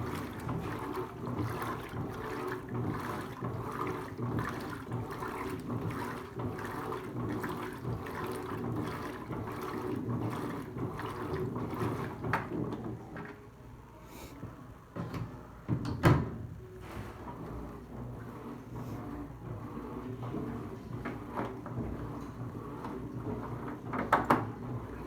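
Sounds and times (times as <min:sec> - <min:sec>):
washing machine sloshing water: 0:00.0 - 0:13.4, 0:16.4 - 0:25.0.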